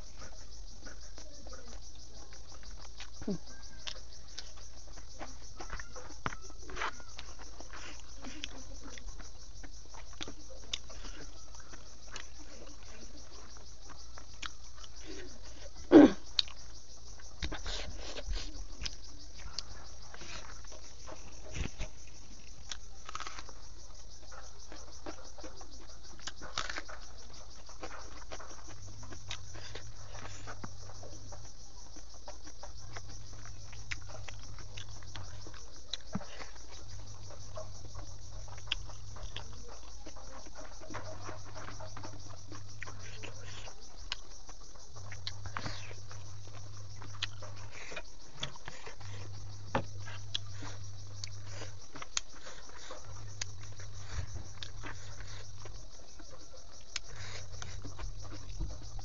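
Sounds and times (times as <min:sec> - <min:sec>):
chewing food: 0:00.0 - 0:59.0.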